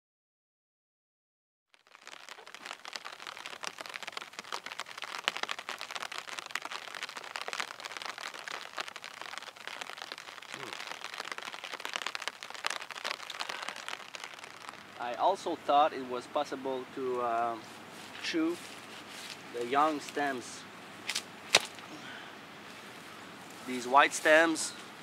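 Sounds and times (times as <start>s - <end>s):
rain pattering: 1.7s - 25.0s
rustling of wet grass and clothing: 1.8s - 25.0s.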